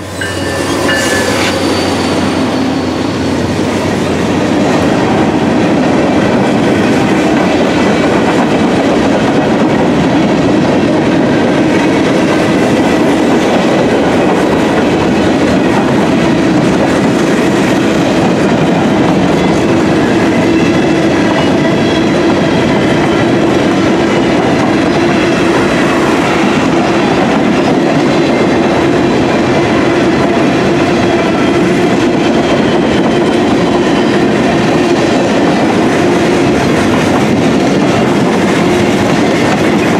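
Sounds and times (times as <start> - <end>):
train wheels rumbling on rails: 0.0 - 39.9
clickety-clack over rail joints: 3.4 - 39.9.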